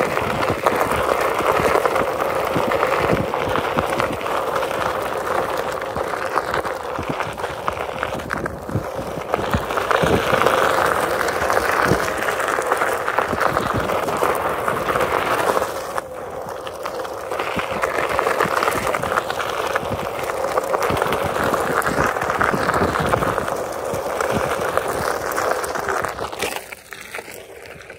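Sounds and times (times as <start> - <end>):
tyre rolling over gravel: 0.0 - 27.9.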